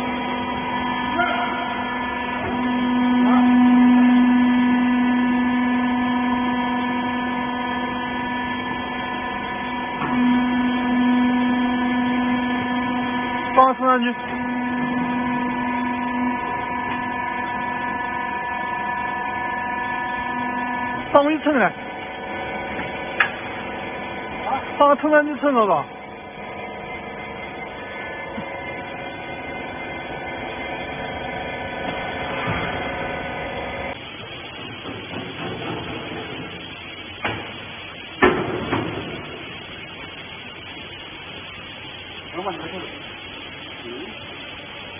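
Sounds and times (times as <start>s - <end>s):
motor and hydraulic pump humming: 0.0s - 44.9s.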